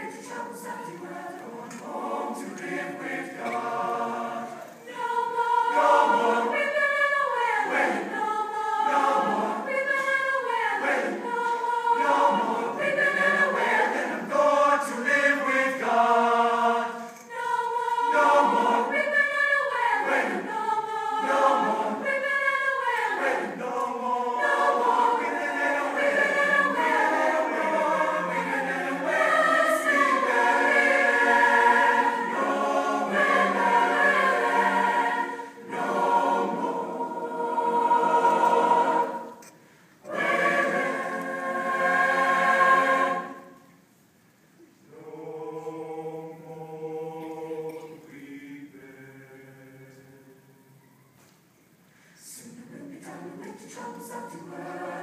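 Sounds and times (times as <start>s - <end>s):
choir singing a cappella: 0.0s - 43.9s, 44.8s - 51.0s, 52.0s - 55.0s.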